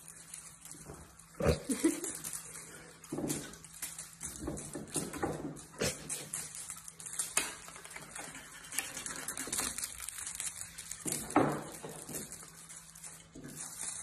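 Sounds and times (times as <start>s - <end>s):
kittens scrabbling on a chair: 0.0s - 14.0s.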